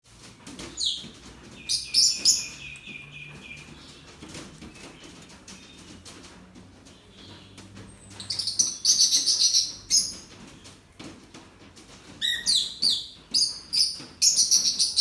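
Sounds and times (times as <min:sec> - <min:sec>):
small birds chirping: 0:00.6 - 0:06.2, 0:06.8 - 0:10.8, 0:12.1 - 0:15.0.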